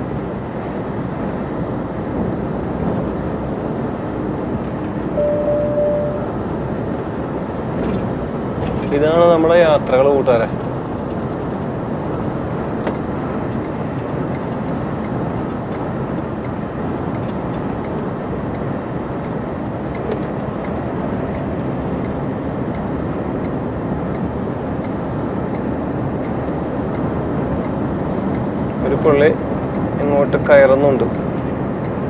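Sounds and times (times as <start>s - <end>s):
truck engine and road noise: 0.0s - 32.0s.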